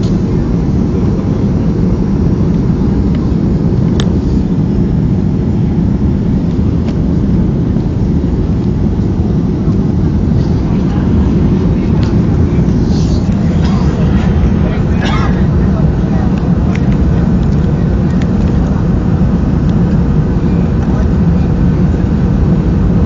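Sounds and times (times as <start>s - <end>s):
jet engine cabin rumble: 0.0s - 23.0s.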